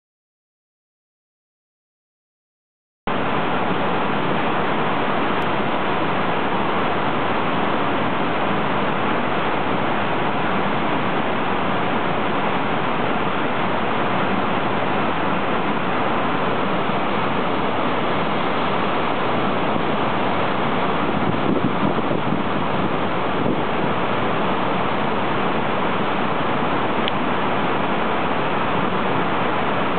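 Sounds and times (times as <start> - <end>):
water rushing over dam spillway: 3.1 - 29.9.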